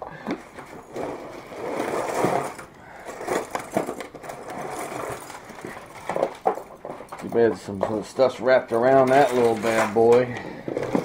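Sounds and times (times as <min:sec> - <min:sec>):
metal scraping cardboard: 0:00.5 - 0:11.0.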